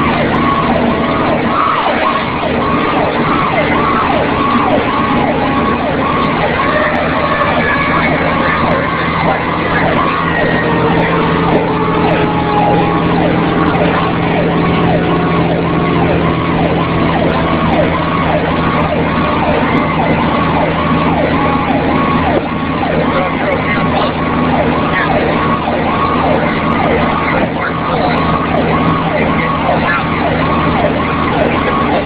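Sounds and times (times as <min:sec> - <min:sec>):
falling siren tones: 0:00.0 - 0:32.0
siren yelp: 0:00.0 - 0:32.0
truck engine running: 0:00.0 - 0:32.0.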